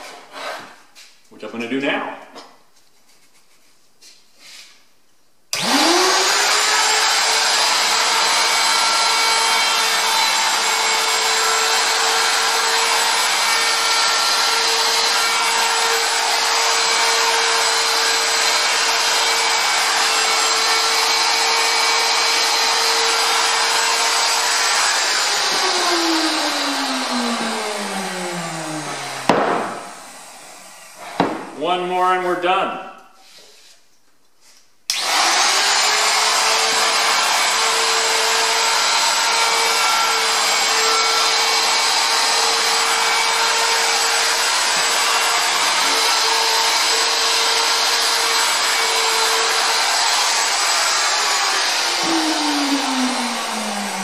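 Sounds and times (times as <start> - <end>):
wood router running: 5.5 - 31.6, 34.9 - 54.0.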